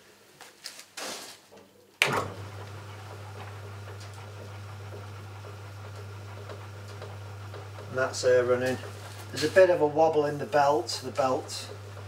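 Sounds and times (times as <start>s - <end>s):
lathe motor humming: 2.1s - 12.0s.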